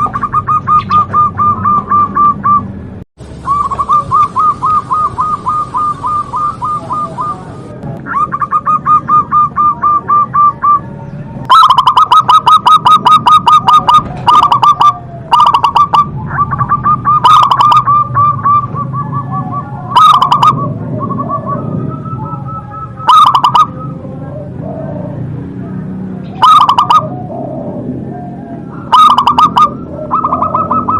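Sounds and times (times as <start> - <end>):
dove cooing: 0.0 - 2.7, 3.4 - 30.9.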